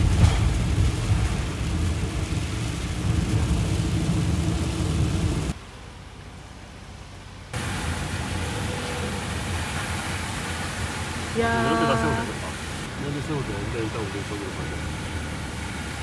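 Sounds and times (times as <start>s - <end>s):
engine and tyres rumbling: 0.0s - 11.4s, 12.2s - 16.0s
road and cabin hiss: 0.0s - 16.0s.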